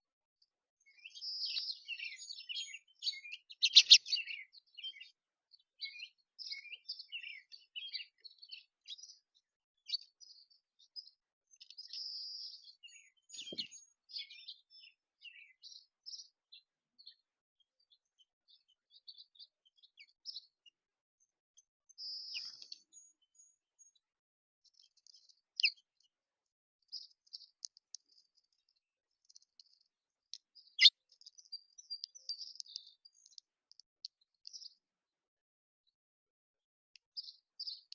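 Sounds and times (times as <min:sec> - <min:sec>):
small songbirds chirping: 0:00.0 - 0:37.9.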